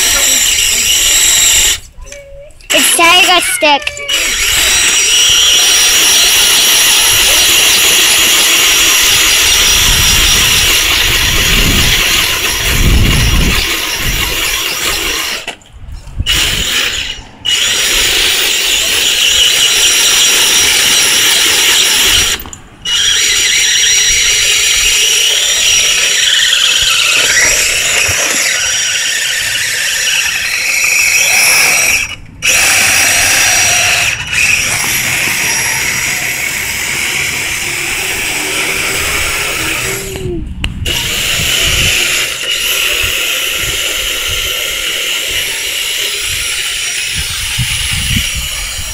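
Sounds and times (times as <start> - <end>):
electric motor and gears whining: 0.0 - 2.0, 2.7 - 15.6, 16.2 - 48.9.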